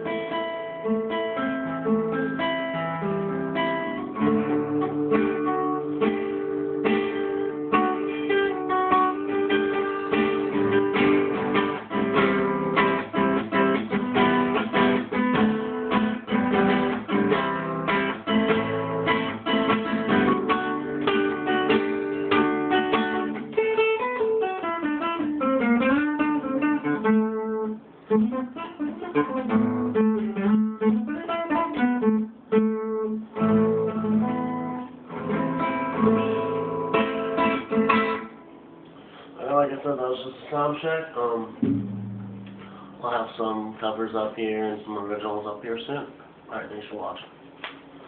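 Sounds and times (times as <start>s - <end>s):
guitar picked notes: 0.0s - 40.1s, 40.8s - 44.1s
guitar strumming chords: 0.0s - 40.1s, 40.8s - 44.2s.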